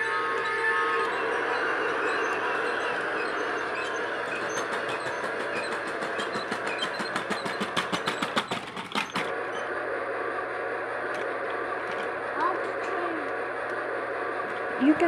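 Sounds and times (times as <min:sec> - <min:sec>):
toy train motor hum: 0:00.0 - 0:15.0.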